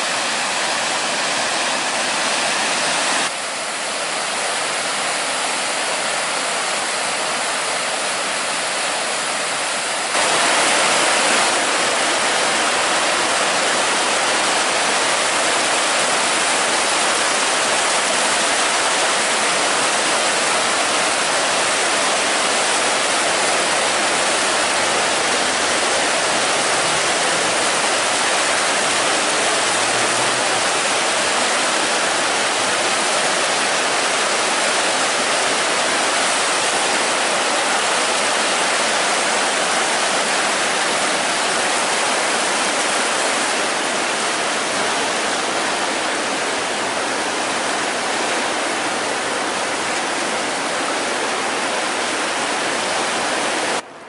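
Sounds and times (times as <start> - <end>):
river rushing through bridge arches: 0.0 - 53.8.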